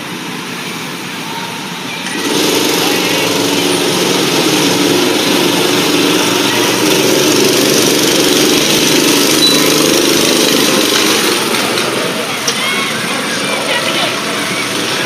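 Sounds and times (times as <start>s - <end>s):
go-kart engines idling: 0.0s - 15.0s
go-kart pulling away: 2.0s - 15.0s.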